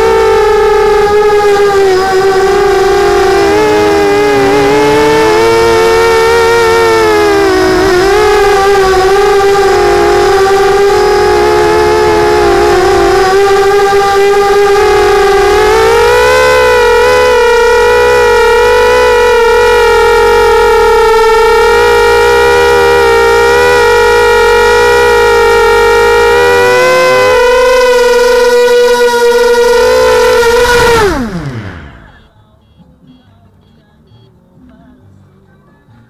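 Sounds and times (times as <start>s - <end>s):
drone motors whining: 0.0s - 32.4s.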